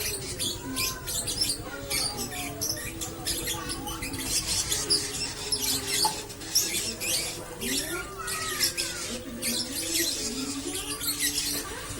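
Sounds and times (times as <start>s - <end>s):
lovebird chattering song: 0.0s - 11.9s.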